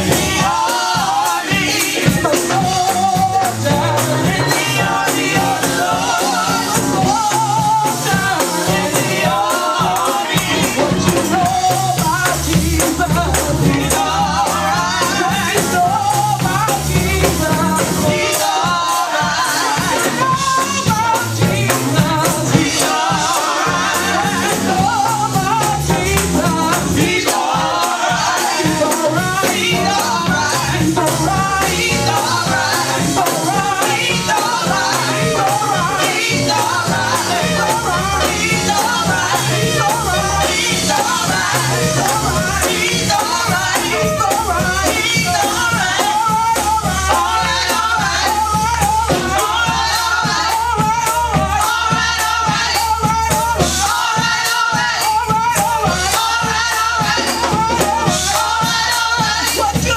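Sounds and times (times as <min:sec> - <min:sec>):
rapid percussion beat: 0:00.0 - 0:59.9
voices singing gospel: 0:00.0 - 0:59.9.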